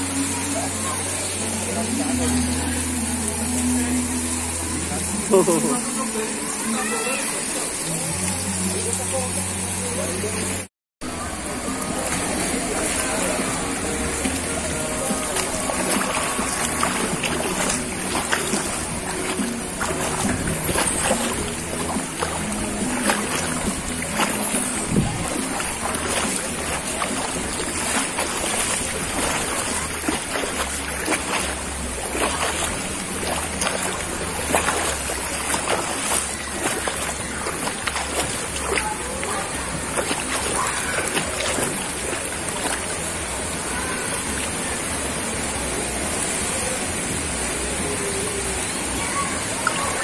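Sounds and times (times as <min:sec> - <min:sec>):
murmur of voices: 0:00.0 - 0:50.0
water splashing and sloshing: 0:00.0 - 0:50.0.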